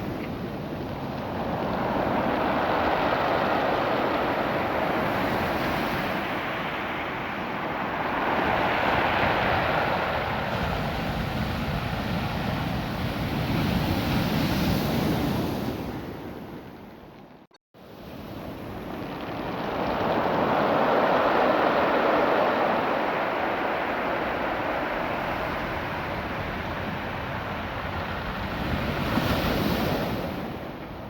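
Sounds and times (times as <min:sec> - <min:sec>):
waves washing over pebble beach: 0:00.0 - 0:15.3, 0:18.0 - 0:31.0.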